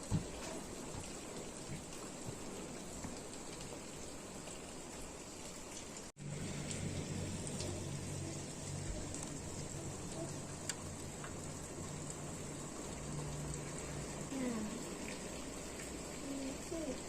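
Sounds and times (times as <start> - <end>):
rain shower falling: 0.0 - 17.0.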